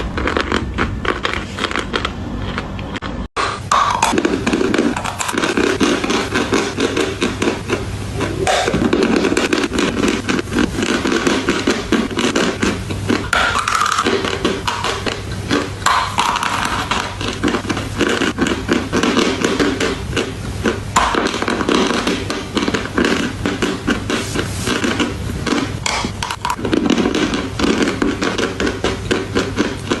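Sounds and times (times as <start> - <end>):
crunching and chewing chalk: 0.0 - 30.0.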